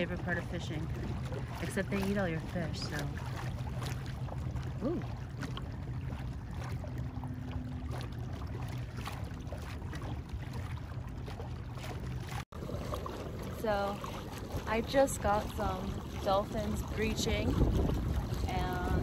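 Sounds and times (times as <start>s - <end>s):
water splashing against hull: 0.0s - 19.0s
wind and water noise: 0.0s - 19.0s.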